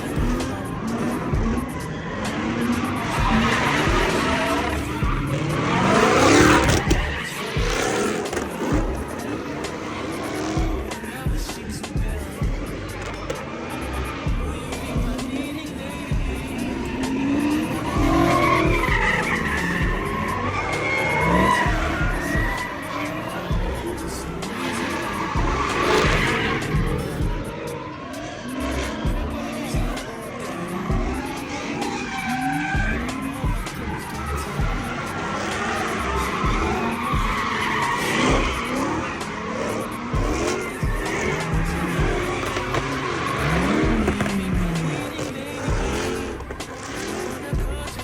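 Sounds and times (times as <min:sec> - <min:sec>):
car engine revving: 0:00.0 - 0:48.0
rap music with heavy bass: 0:00.0 - 0:48.0
tires squealing: 0:00.0 - 0:48.0.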